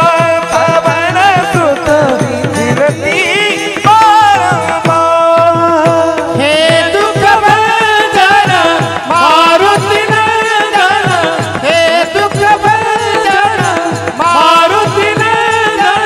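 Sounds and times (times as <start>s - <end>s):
drum beating steady rhythm: 0.0s - 16.0s
men singing together: 0.0s - 16.0s.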